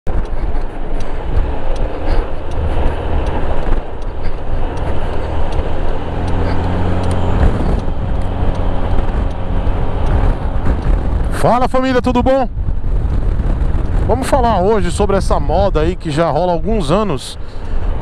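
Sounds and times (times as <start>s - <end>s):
motorcycle engine running: 0.1s - 14.6s
wind rushing over microphone: 0.1s - 18.0s.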